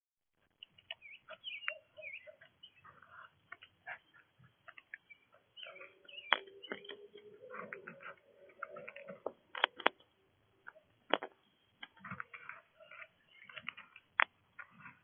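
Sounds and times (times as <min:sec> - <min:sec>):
small songbirds chirping: 0:00.4 - 0:15.0.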